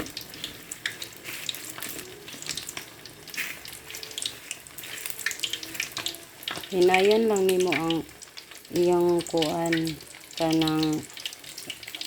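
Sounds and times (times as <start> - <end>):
deep-frying sizzle: 0.0 - 12.0
oil crackling and popping: 0.0 - 12.0.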